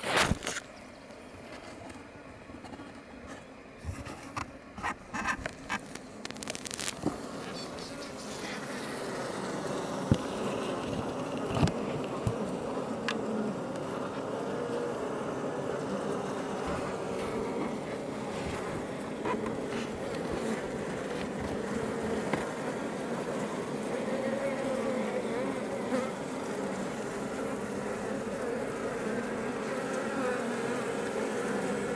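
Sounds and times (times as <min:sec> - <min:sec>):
bees buzzing: 0:00.7 - 0:31.9.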